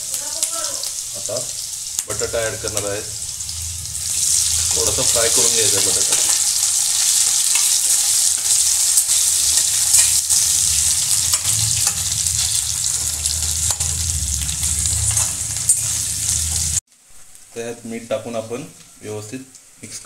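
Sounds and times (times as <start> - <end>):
potatoes sizzling in hot oil: 0.0 - 16.8.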